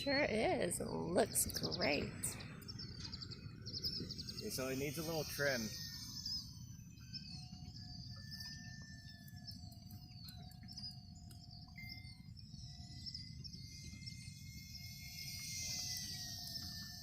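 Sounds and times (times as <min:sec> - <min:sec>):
birds chirping: 0:00.0 - 0:17.0
low wind rumble on microphone: 0:00.0 - 0:17.0.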